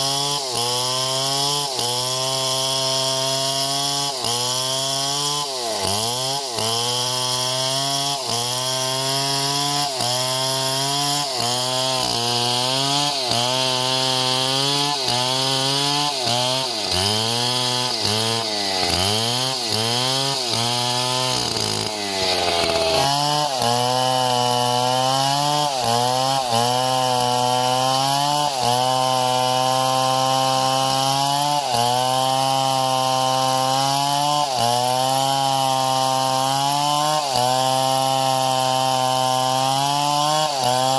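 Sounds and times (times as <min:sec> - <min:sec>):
engine saw cutting wood: 0:00.0 - 0:40.9.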